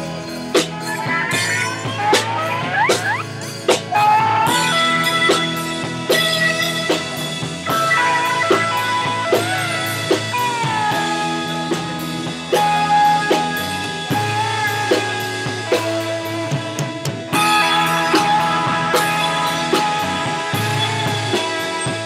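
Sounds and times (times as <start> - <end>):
bass guitar: 0.0 - 22.0
lead guitar bent notes: 0.0 - 22.0
drum beat: 0.1 - 22.0.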